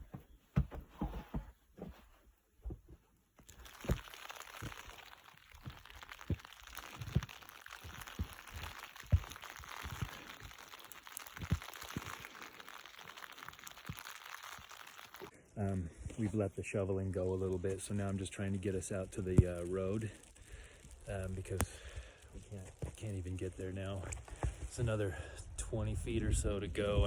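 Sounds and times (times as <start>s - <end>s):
snow crunching underfoot: 0.0s - 15.3s, 15.9s - 25.0s.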